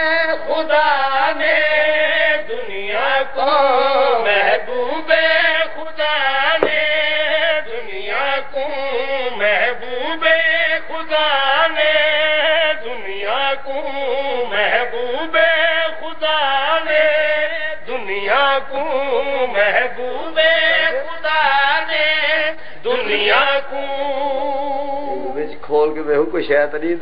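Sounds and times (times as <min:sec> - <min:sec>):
men chanting: 0:00.0 - 0:25.5.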